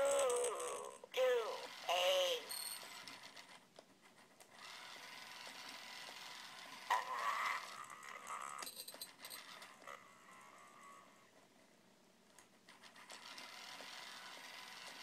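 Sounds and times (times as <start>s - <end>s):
toy gear motor whirring: 0.0s - 11.3s, 12.7s - 15.0s.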